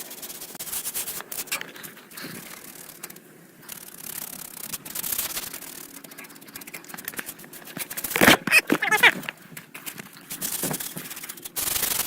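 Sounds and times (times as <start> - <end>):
scraping against metal fins: 0.0 - 12.0.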